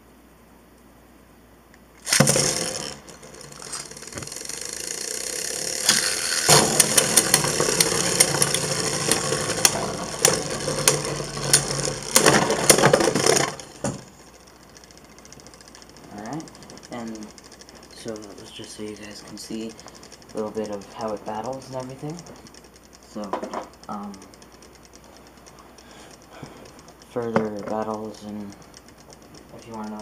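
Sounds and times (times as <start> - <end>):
spinning tops colliding clicks: 1.8 - 30.0
spinning tops whirring: 2.0 - 30.0.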